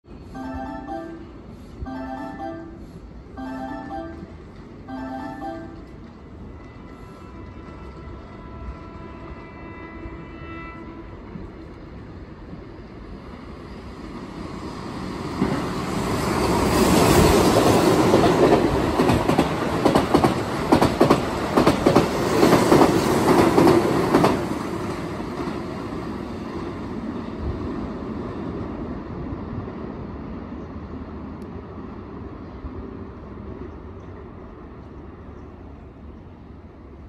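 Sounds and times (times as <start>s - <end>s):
train passing at speed: 0.1s - 37.0s.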